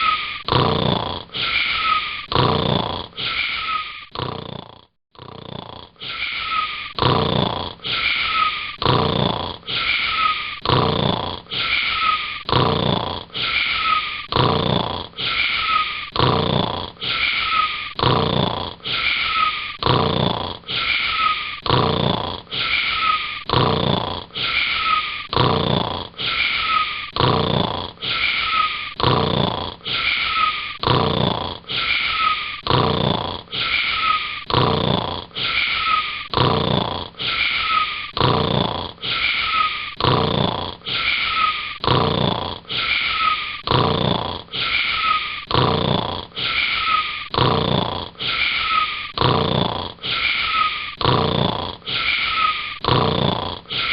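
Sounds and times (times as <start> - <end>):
cartoon girl snoring: 0.0 - 53.9.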